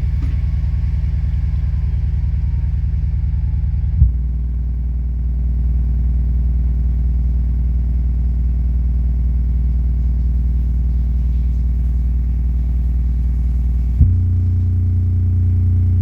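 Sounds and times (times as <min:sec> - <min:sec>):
subwoofer deep bass tone: 0:00.0 - 0:16.0.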